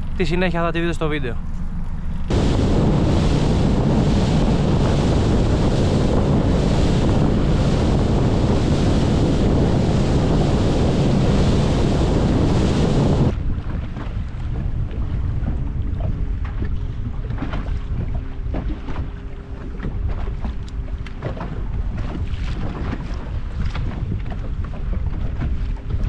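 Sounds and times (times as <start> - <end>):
water lapping: 1.8 - 26.0
water rushing past hull: 1.8 - 26.0
wind buffeting microphone: 2.0 - 26.0.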